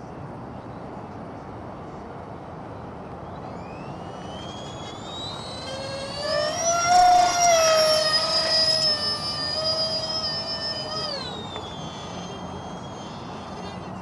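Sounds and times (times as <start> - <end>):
electric ducted fans whining: 0.0 - 14.0.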